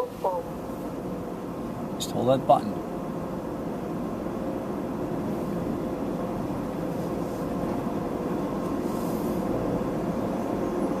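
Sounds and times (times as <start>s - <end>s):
car engine: 0.0s - 11.0s
car wash machinery running: 0.0s - 11.0s.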